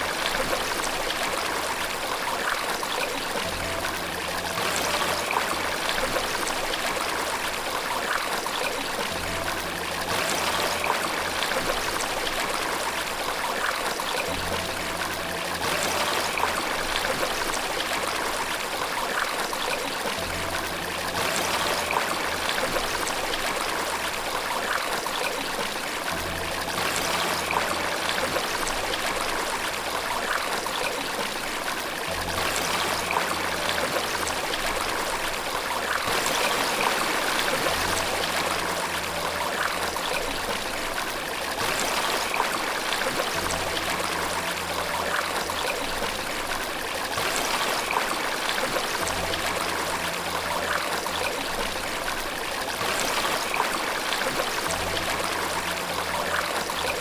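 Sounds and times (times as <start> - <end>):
faint low steady notes: 0.0 - 57.0
running water trickling: 0.0 - 57.0.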